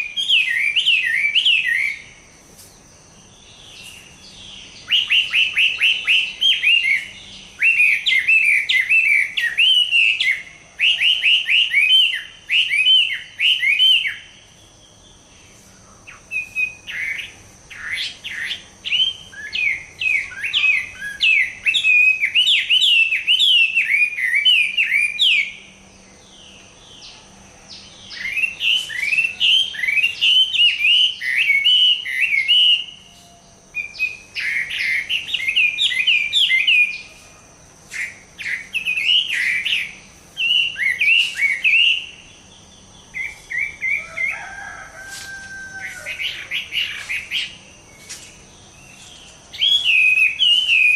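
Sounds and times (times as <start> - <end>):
bird singing whistled notes: 0.0 - 50.9.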